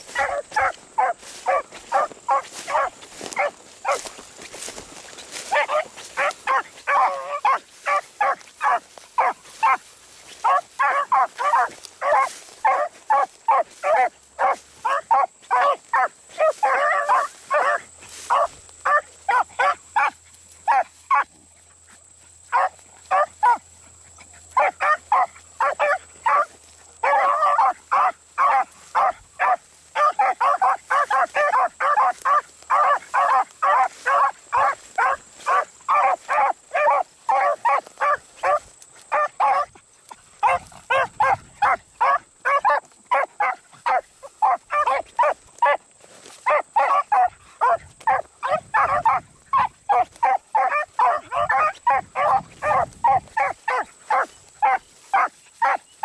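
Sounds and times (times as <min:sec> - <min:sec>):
hounds barking: 0:00.0 - 0:56.0.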